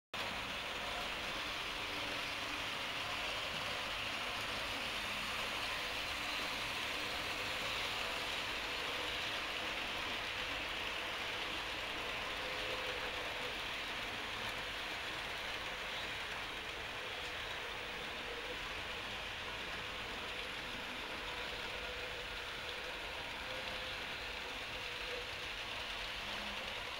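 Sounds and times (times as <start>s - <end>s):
model train rolling whir: 0.2s - 26.9s.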